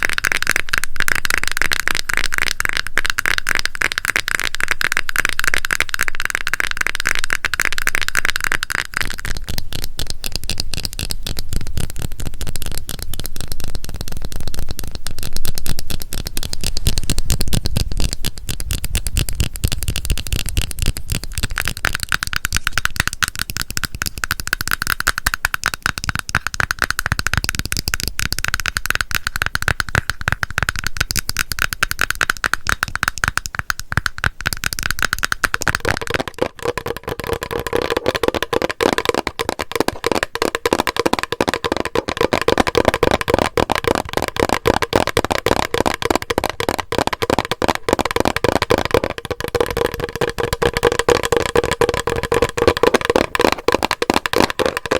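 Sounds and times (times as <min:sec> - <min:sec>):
hollow tapping on plastic bottle: 0:00.0 - 0:54.9
tapping on a cream container: 0:00.0 - 0:54.9.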